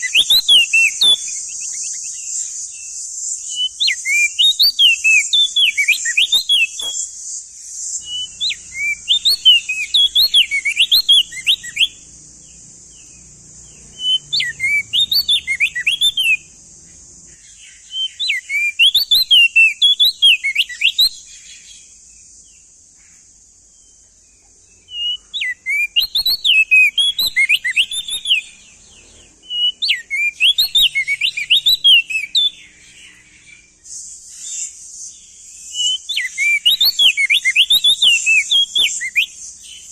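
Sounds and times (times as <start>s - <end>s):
bird singing whistled notes: 0.0s - 39.9s
steady high hiss: 0.0s - 39.9s.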